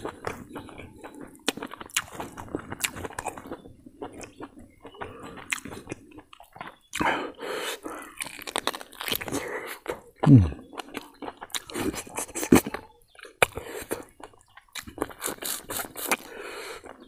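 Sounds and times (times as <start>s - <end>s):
person chewing and lip-smacking: 0.0s - 17.0s.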